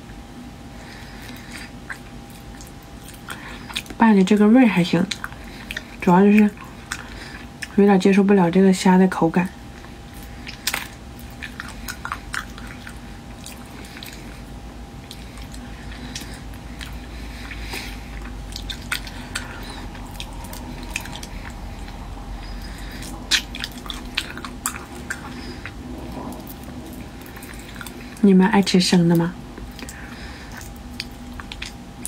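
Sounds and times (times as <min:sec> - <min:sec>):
faint hum: 0:00.0 - 0:32.0
chewing with wet squishing: 0:00.7 - 0:08.6, 0:09.3 - 0:32.0.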